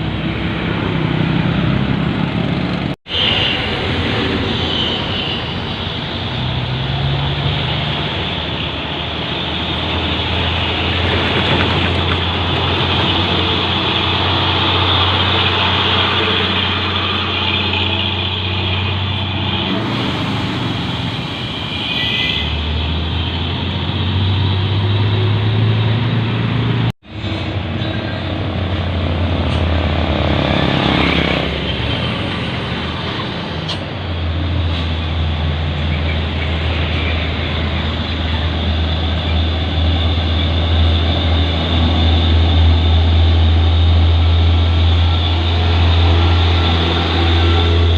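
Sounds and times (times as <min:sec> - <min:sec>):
diesel truck engines under load: 0:05.4 - 0:21.8, 0:22.5 - 0:47.9.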